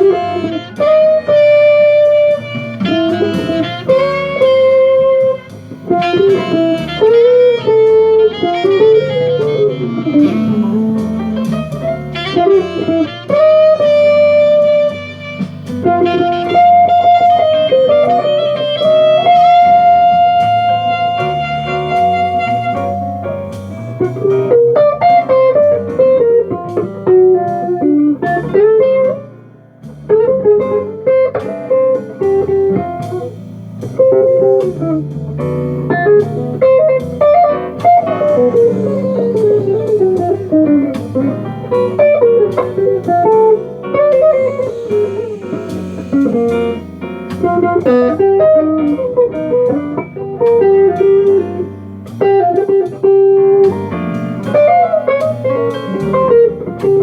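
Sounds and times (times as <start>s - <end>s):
bass notes: 0.0s - 57.0s
jazz guitar melody: 0.0s - 57.0s.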